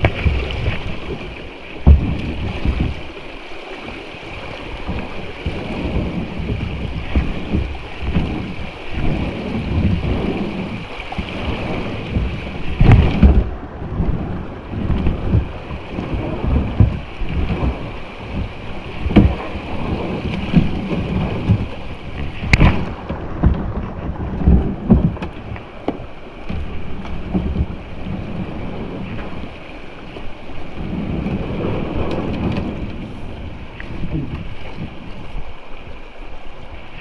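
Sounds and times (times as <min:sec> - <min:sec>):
creek water rushing: 0:00.0 - 0:37.0
wind buffeting microphone: 0:00.0 - 0:37.0.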